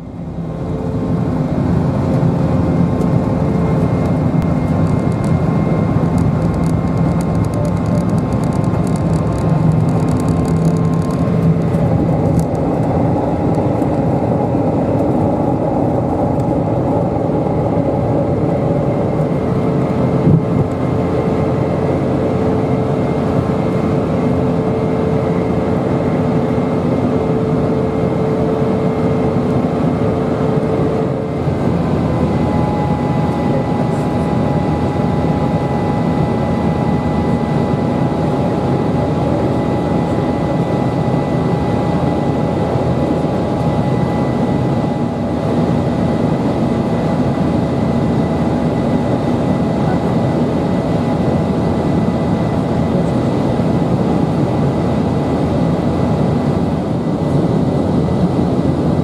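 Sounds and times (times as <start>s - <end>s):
jet engine and airflow noise: 0.0s - 59.0s.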